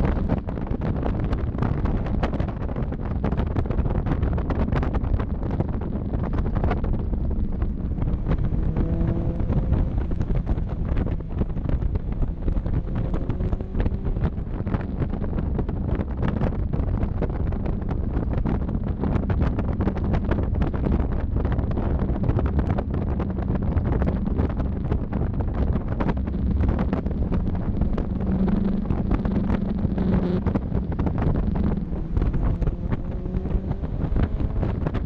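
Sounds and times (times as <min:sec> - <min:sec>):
faint car engine: 0:00.0 - 0:35.0
wind buffeting microphone: 0:00.0 - 0:35.0.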